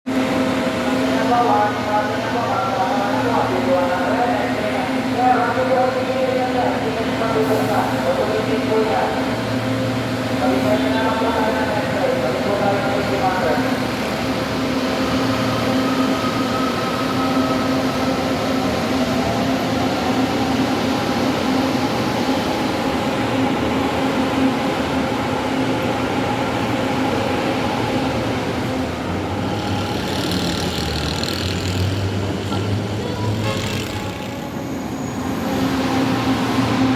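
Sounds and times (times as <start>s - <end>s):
electric train rumbling: 0.1s - 36.9s.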